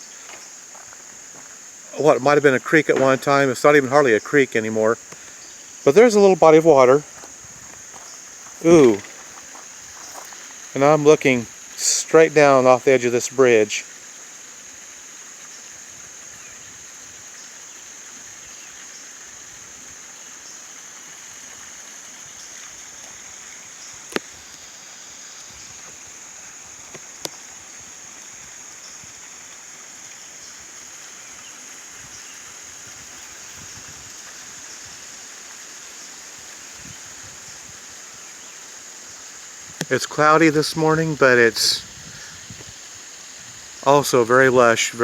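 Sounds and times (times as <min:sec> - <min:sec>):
faint outdoor hiss: 0:00.0 - 0:45.0
high-pitched insect chorus: 0:00.0 - 0:45.0.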